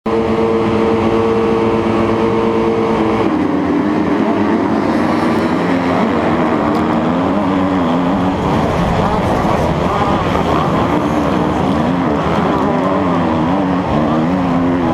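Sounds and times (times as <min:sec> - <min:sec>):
motocross bike engine revving: 0:00.1 - 0:14.9.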